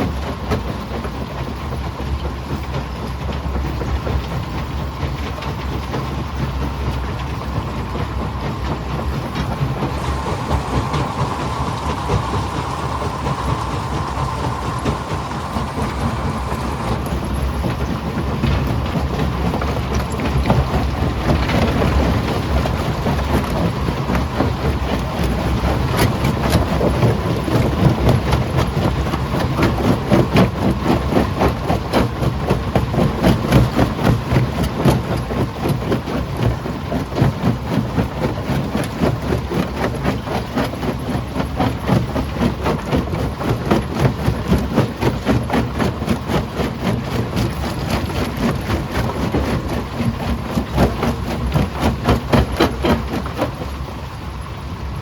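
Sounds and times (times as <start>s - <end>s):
low machine drone: 0.0s - 55.0s.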